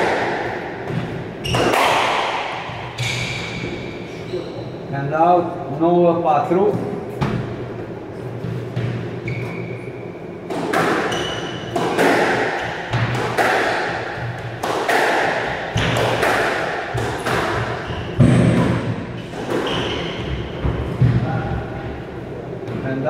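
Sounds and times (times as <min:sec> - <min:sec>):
squash ball hitting rackets and walls: 0:00.0 - 0:04.1, 0:08.4 - 0:23.0.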